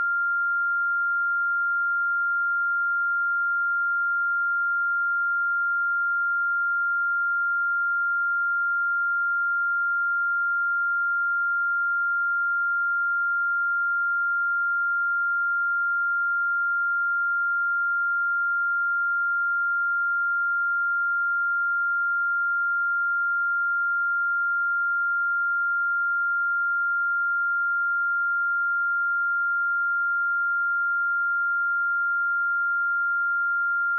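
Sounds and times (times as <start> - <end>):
high-pitched sine test tone: 0.0 - 33.9.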